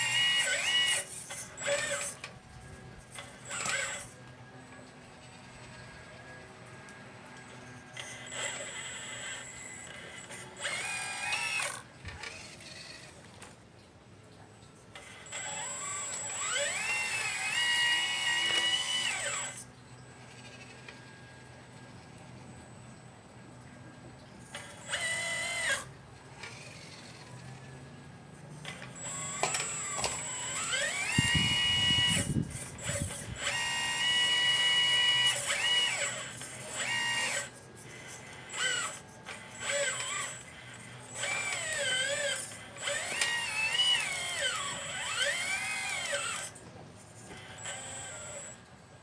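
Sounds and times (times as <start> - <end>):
model excavator motors whining: 0.0 - 49.0.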